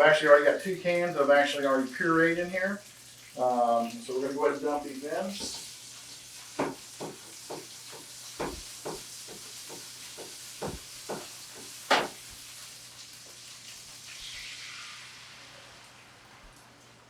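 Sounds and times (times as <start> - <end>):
sauce sizzling in hot oil: 0.0 - 17.0.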